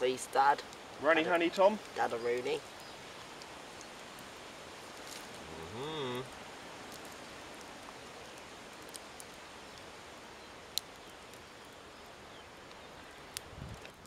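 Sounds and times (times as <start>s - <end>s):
campfire crackling and popping: 0.0s - 14.0s
outdoor hiss: 0.0s - 14.0s.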